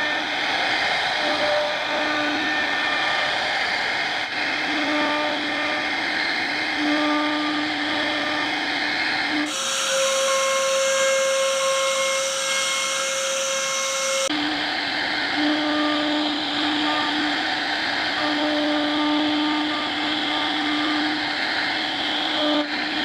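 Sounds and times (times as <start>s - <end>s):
router spindle whining: 0.0s - 23.0s
wood cutting noise: 0.0s - 23.0s.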